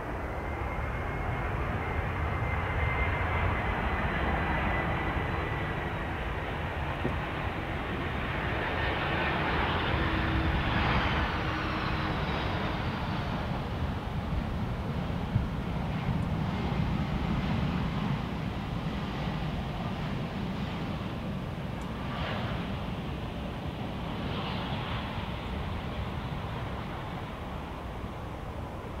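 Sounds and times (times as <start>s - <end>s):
aircraft engines rumbling: 0.0s - 29.0s.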